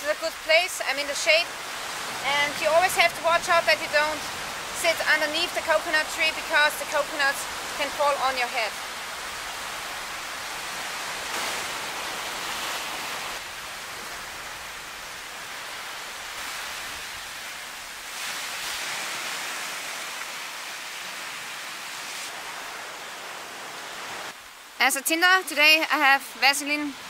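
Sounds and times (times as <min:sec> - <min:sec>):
surf rushing on a beach: 0:00.0 - 0:24.4.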